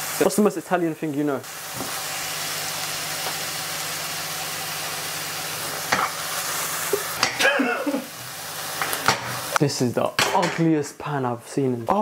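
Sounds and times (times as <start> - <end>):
onions sizzling in a saucepan: 0.0 - 11.3.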